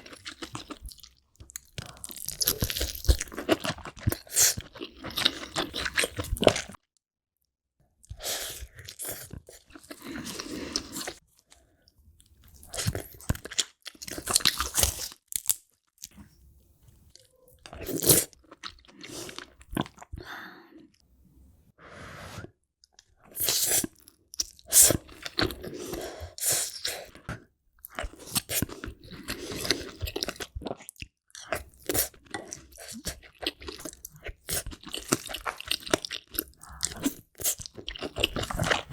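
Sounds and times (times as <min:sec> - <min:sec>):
crunching and wet chewing: 0:00.0 - 0:06.9, 0:08.0 - 0:11.6, 0:12.2 - 0:16.2, 0:17.1 - 0:20.2, 0:22.9 - 0:38.9.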